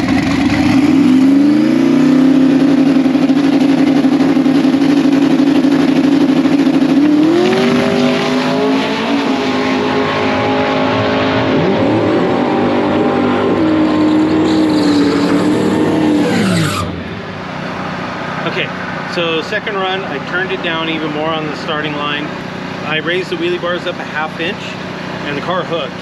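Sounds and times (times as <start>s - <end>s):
race car engine revving and launching: 0.0s - 26.0s.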